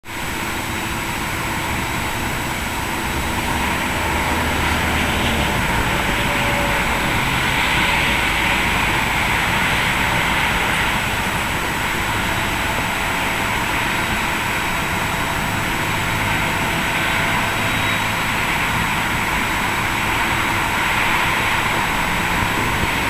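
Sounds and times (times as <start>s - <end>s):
jet engine hiss: 0.1s - 23.0s.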